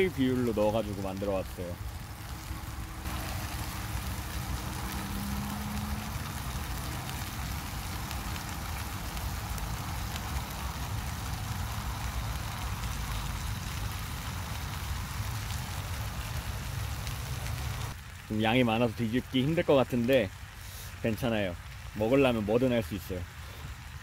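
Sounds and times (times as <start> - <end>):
chicken sizzling in a skillet: 0.0 - 19.7, 20.6 - 21.4.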